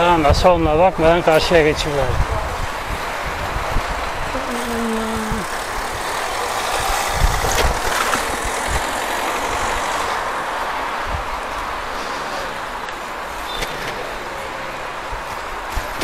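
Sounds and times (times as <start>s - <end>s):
wind noise: 0.0s - 14.2s
street traffic: 0.0s - 16.0s.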